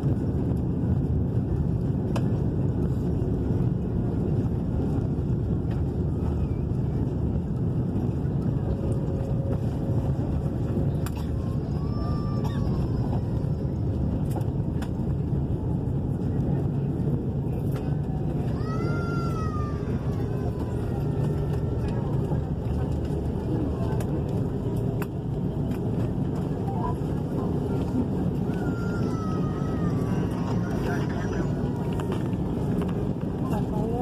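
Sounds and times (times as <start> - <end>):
airplane cabin engine rumble: 0.0 - 34.0.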